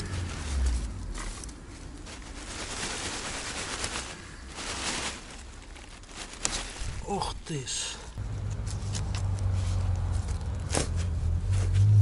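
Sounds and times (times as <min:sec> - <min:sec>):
dry leaves rustling and crunching: 0:00.0 - 0:11.1.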